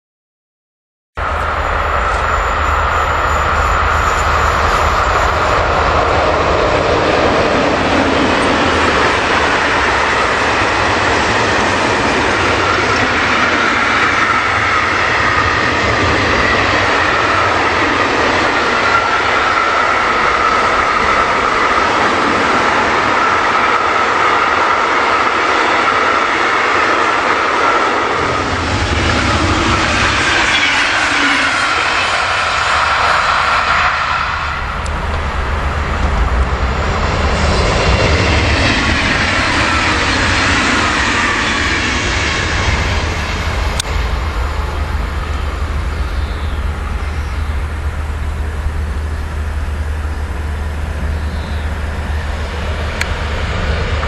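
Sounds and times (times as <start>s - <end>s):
freight train wheels rolling on rails: 1.2s - 54.0s.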